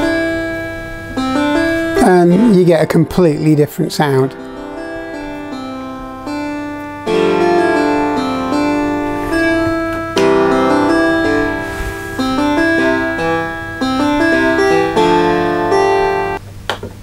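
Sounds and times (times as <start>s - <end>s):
keyboard harpsichord tune: 0.0s - 16.4s.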